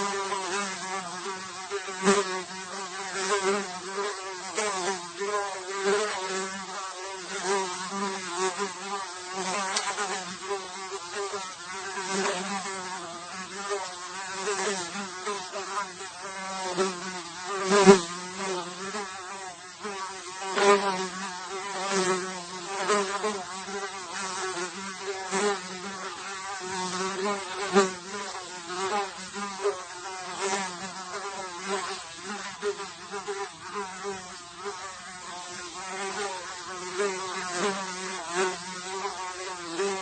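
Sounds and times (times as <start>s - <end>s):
fly buzzing: 0.0s - 40.0s.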